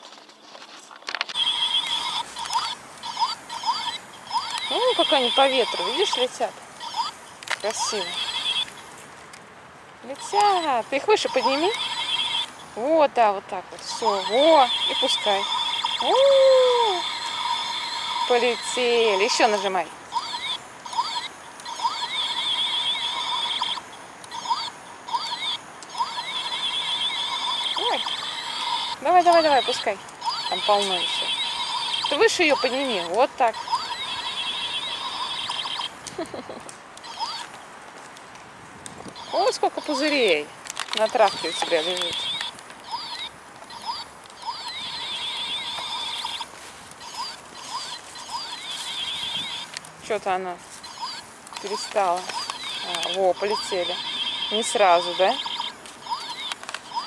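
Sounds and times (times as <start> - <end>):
toy chirping electronic tones: 1.4 - 8.8, 10.1 - 12.9, 13.8 - 36.0, 37.0 - 37.5, 39.2 - 40.4, 41.0 - 49.8, 50.8 - 57.0.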